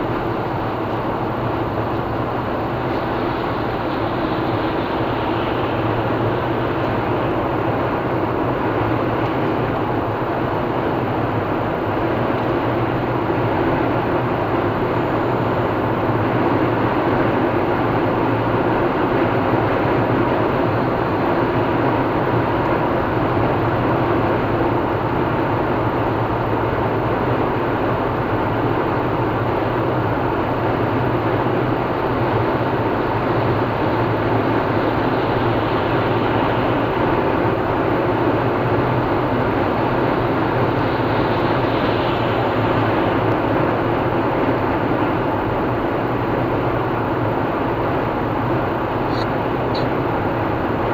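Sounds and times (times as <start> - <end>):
low engine hum: 0.0 - 50.9
tyre and road noise: 0.0 - 50.9.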